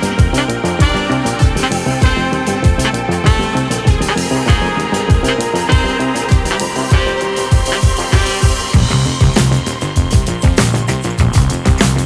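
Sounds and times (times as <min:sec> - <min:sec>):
instrumental music with drum beat: 0:00.0 - 0:12.0.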